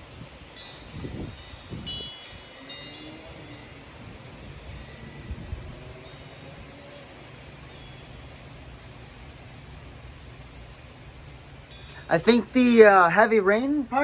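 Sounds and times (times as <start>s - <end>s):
wind rumble on microphone: 0.0s - 12.8s
wind chimes ringing: 0.0s - 14.0s.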